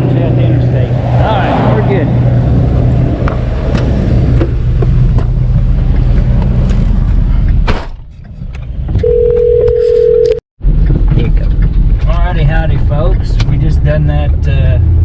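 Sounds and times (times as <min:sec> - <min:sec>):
roadside traffic noise: 0:00.0 - 0:15.0
vehicle engine humming: 0:00.0 - 0:15.0.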